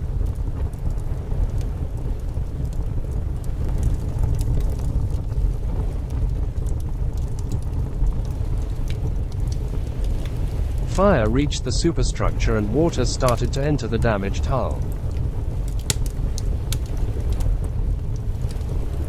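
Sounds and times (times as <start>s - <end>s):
burning cardboard crackling: 0.0s - 19.0s
wind buffeting microphone: 0.0s - 19.0s.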